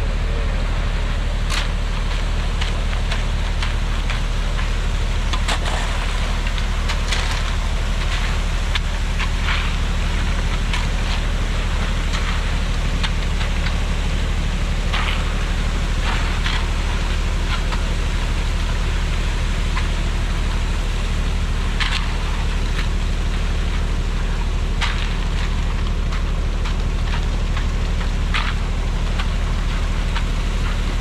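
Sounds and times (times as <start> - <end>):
heavy engine rumbling: 0.0 - 31.0
crackles and scrapes: 1.3 - 31.0.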